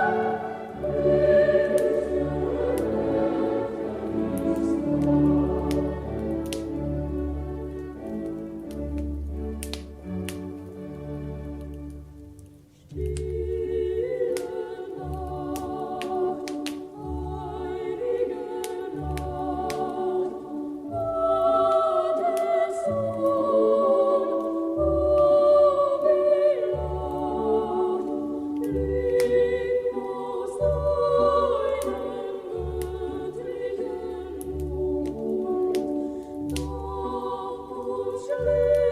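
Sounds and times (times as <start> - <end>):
choir singing sustained chords: 0.0 - 38.9.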